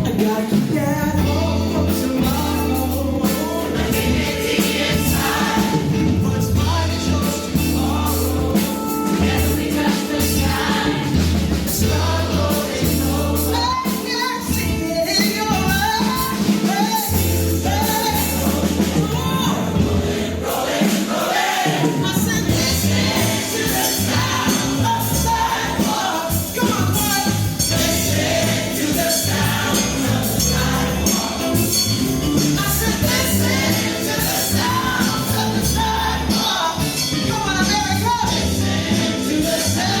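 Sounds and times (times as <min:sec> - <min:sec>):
bass line: 0:00.0 - 0:20.4, 0:22.0 - 0:40.0
choir singing with band: 0:00.0 - 0:40.0.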